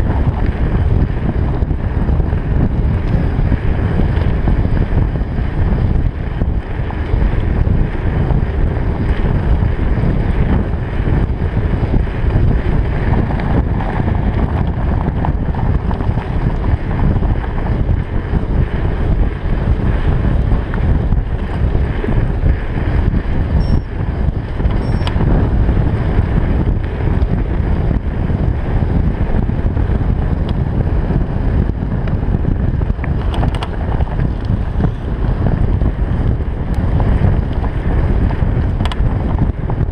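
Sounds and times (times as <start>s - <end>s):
tyres rumbling on gravel: 0.0s - 39.9s
wind buffeting microphone: 0.0s - 39.9s.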